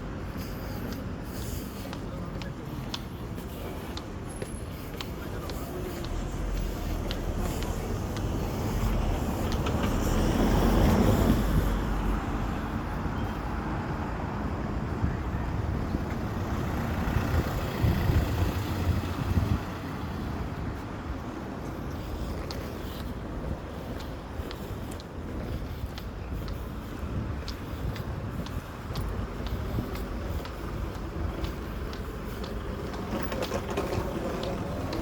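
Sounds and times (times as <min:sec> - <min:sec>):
road vehicles passing: 0:00.0 - 0:35.0.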